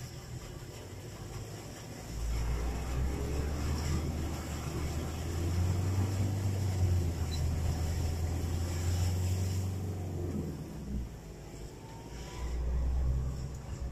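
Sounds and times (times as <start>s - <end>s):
rain and water hiss: 0.0s - 13.9s
vehicle engine droning: 0.0s - 13.9s.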